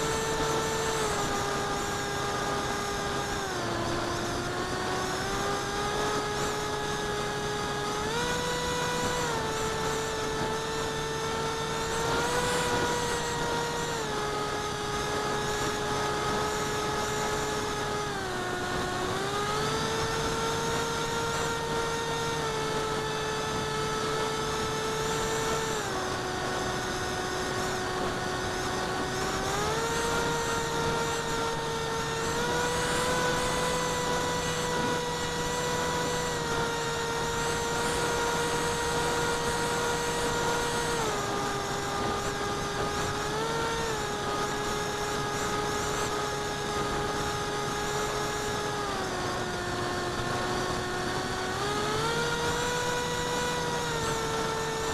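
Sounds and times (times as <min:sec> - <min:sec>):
electric motor and propeller whine: 0:00.0 - 0:54.9.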